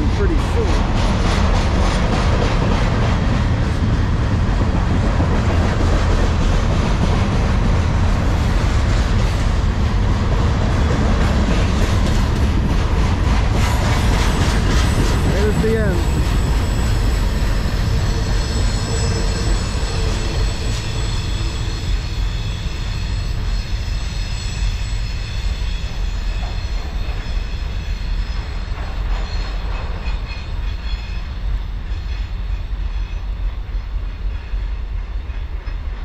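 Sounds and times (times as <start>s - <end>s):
freight train rumbling on rails: 0.0s - 36.0s.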